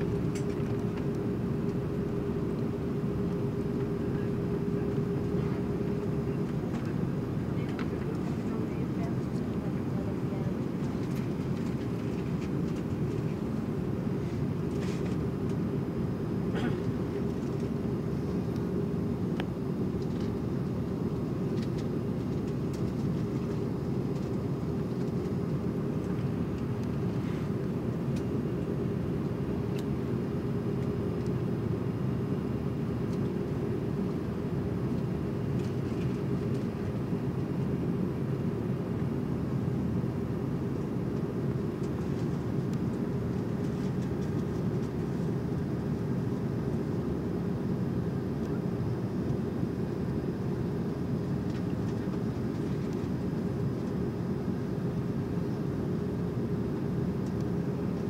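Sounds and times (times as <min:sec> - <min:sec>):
aircraft cabin engine drone: 0:00.0 - 0:58.0.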